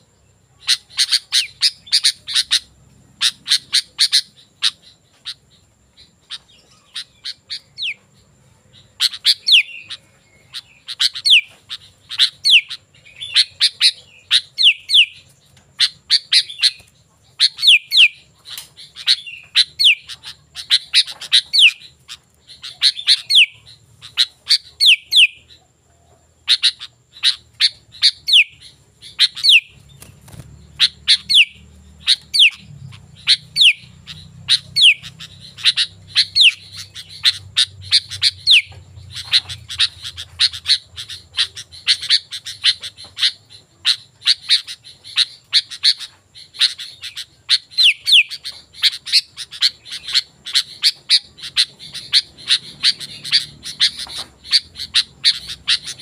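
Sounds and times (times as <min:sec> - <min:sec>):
bird chirps: 0:00.0 - 0:56.0
bird singing chattering phrases: 0:00.0 - 0:56.0.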